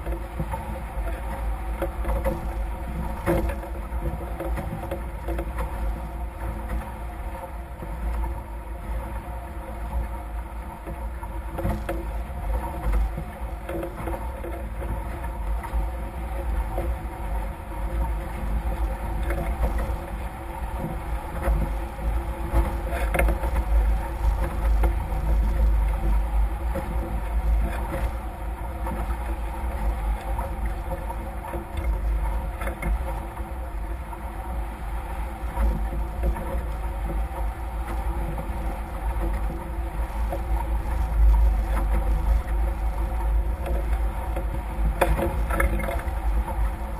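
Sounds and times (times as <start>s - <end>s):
steady hum: 0.0s - 46.9s
water rushing past hulls: 0.0s - 46.9s
wind buffeting microphone: 0.0s - 46.9s.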